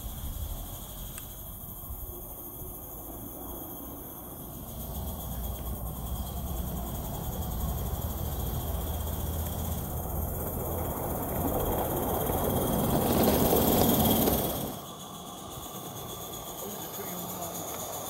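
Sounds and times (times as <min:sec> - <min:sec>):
model steam locomotive running: 0:00.0 - 0:18.0.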